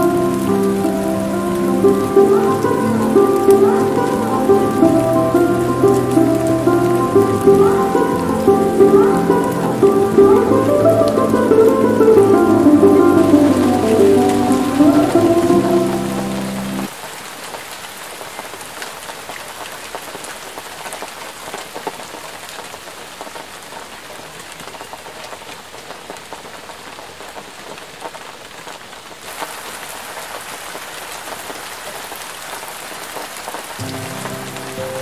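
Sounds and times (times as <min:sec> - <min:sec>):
rain on a car roof: 0:00.0 - 0:35.0.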